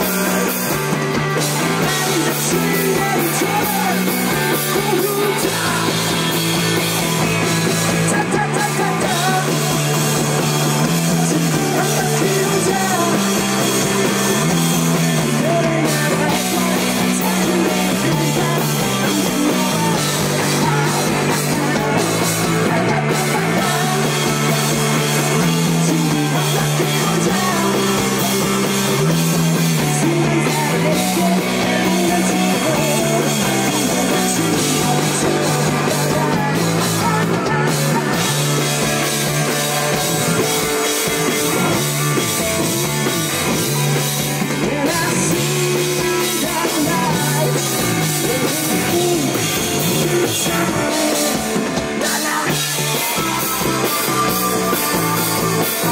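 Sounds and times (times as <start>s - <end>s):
bass line: 0.0s - 55.9s
man singing: 0.0s - 55.9s
rock band playing: 0.0s - 55.9s.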